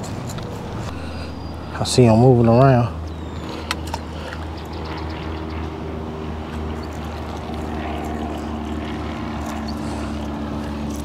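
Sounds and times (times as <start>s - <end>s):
steady mechanical drone: 0.0s - 11.0s.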